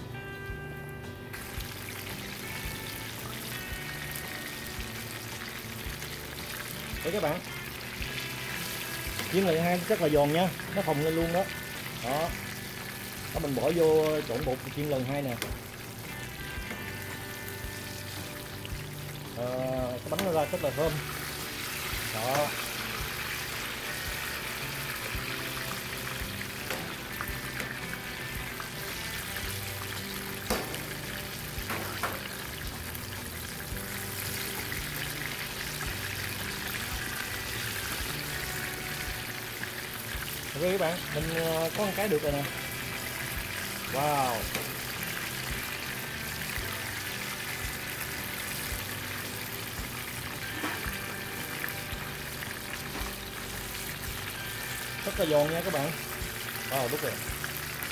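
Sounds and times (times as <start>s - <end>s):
background music: 0.0s - 57.9s
fritters sizzling in hot oil: 1.4s - 57.9s.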